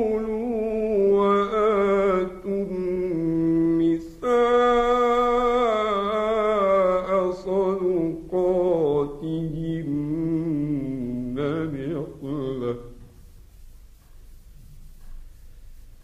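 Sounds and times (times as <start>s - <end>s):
man chanting melodically: 0.0s - 13.2s.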